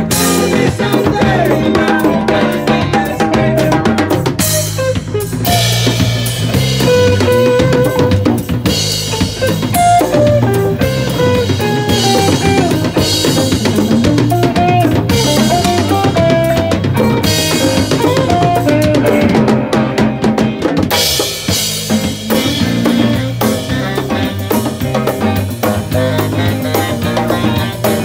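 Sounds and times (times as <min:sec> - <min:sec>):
bass drum and snare: 0:00.0 - 0:28.0
live band playing: 0:00.0 - 0:28.0.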